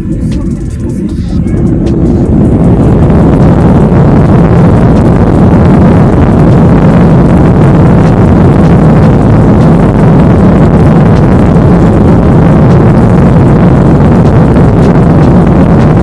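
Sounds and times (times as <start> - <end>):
airliner engines at takeoff power: 0.0 - 16.0.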